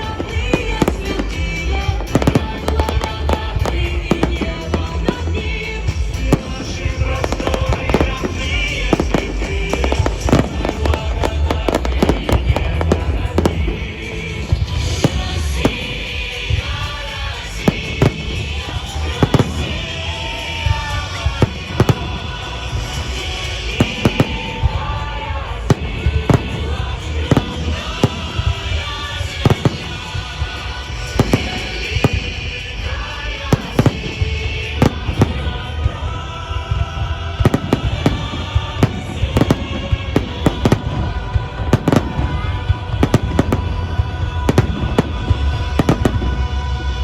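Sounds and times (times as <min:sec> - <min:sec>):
firework bursts and bangs: 0:00.0 - 0:47.0
music with heavy bass: 0:00.0 - 0:47.0.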